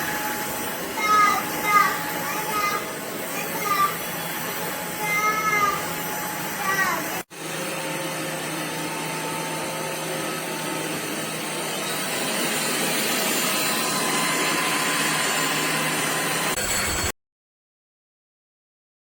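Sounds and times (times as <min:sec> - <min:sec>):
stick vacuum whirring: 0:00.0 - 0:17.1.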